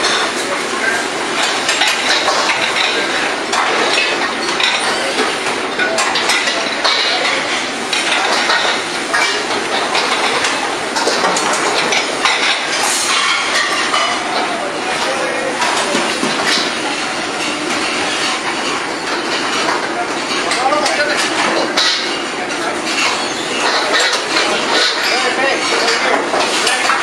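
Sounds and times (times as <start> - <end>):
pans and utensils clanging: 0.0 - 27.0.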